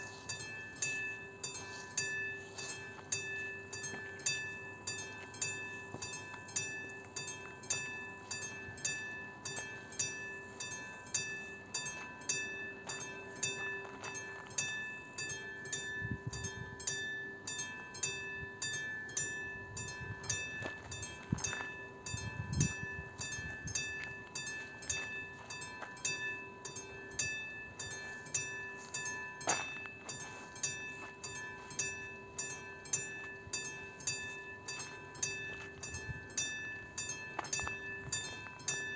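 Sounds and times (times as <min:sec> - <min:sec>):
level-crossing warning bell: 0:00.0 - 0:38.9.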